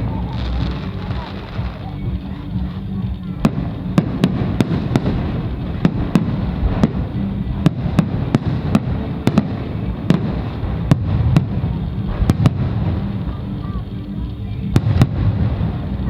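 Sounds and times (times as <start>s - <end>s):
fireworks cracking: 0.0s - 16.0s
fireworks rumbling: 0.0s - 16.0s.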